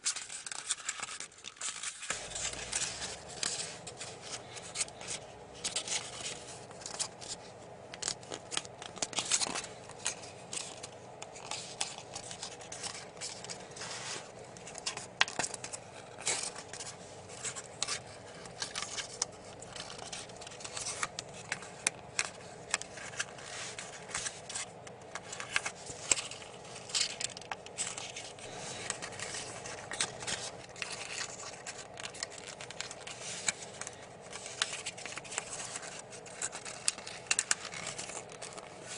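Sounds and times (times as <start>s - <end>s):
paper crinkling and rustling: 0.0s - 38.9s.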